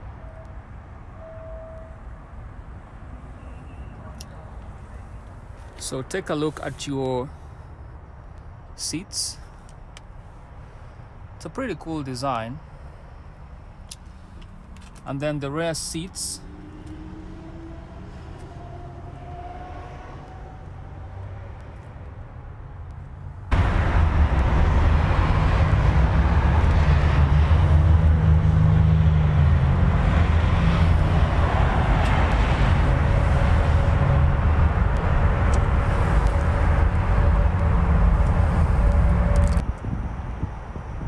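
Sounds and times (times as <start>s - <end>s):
vehicle drone with low rumble: 0.0s - 41.0s.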